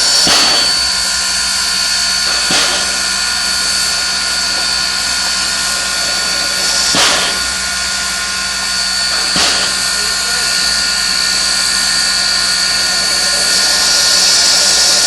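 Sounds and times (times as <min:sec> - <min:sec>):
steam locomotive hissing: 0:00.0 - 0:15.0
steam puffs: 0:00.0 - 0:15.0.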